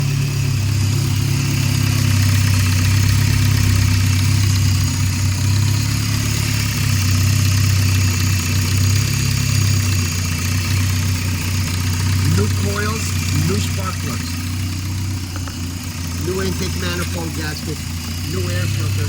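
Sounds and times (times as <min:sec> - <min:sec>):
car engine idling with misfire: 0:00.0 - 0:19.0.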